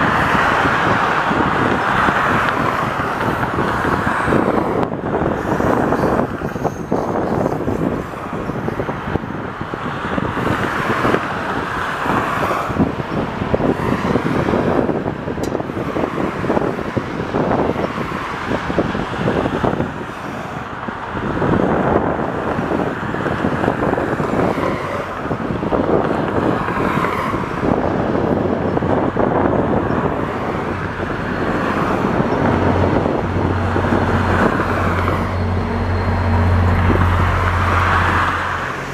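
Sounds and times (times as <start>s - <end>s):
highway traffic: 0.0s - 38.9s.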